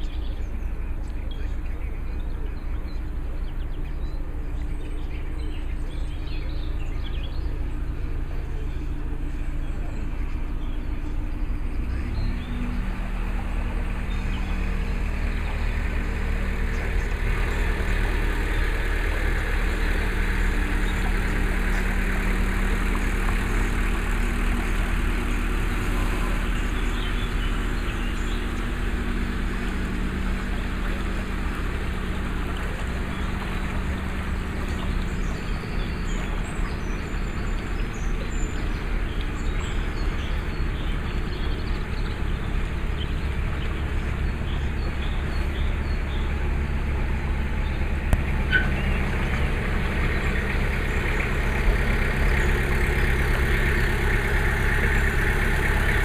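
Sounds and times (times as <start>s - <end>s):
boat diesel engine running: 0.0s - 56.0s.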